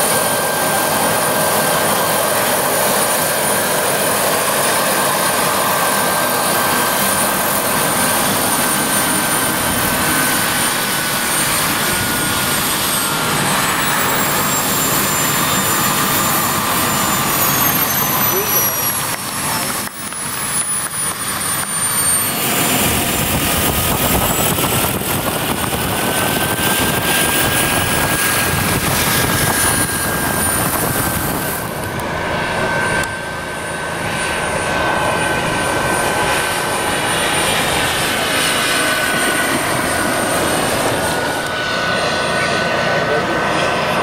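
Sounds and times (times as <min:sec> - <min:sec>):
helicopter rotors whirring: 0:00.0 - 0:44.0
model helicopter whine: 0:00.0 - 0:44.0.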